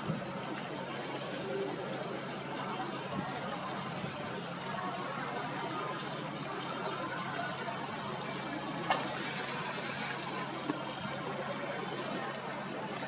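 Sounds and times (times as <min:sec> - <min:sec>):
river water rushing and trickling: 0:00.0 - 0:13.0.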